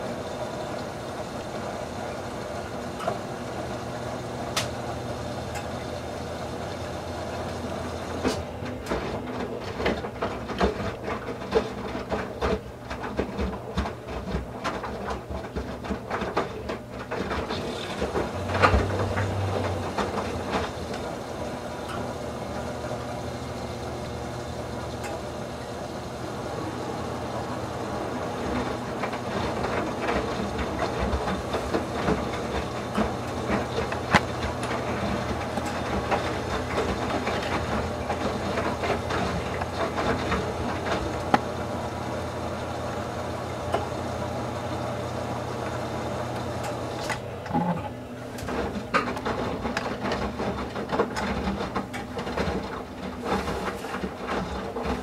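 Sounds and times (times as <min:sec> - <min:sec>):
washer motor hum: 0:00.0 - 0:55.0
water sloshing in washer drum: 0:00.0 - 0:55.0.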